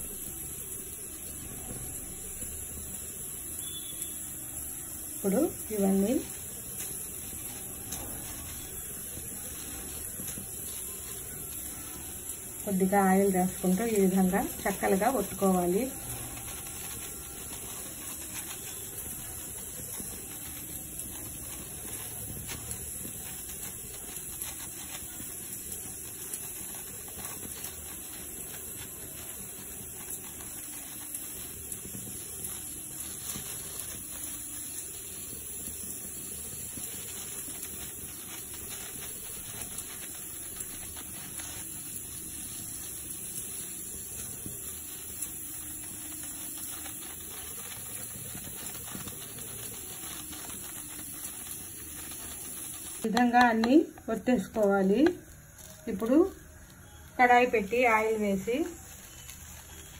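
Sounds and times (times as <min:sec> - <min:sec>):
plastic sheet crinkles and pats: 0:00.0 - 0:59.9.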